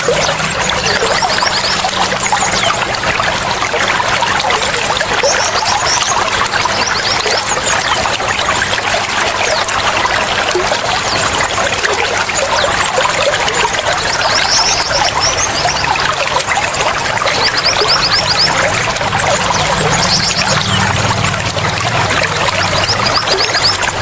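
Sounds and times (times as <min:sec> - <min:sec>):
water trickling and splashing: 0:00.0 - 0:24.0.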